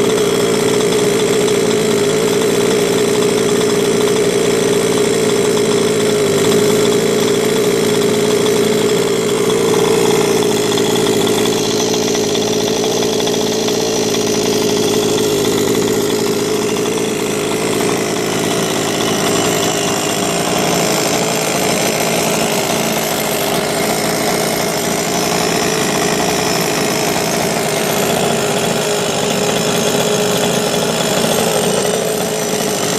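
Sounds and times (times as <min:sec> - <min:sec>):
two-stroke engine idling: 0:00.0 - 0:32.9.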